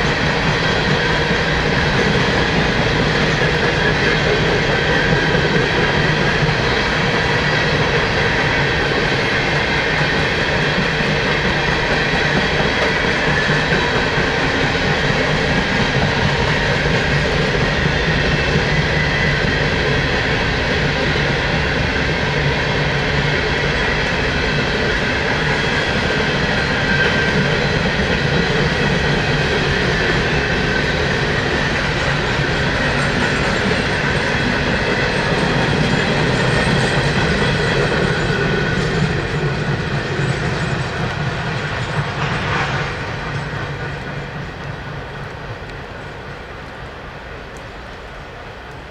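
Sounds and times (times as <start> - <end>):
freight train rolling past: 0.0 - 48.9
steel wheels clattering on rail: 0.0 - 48.9.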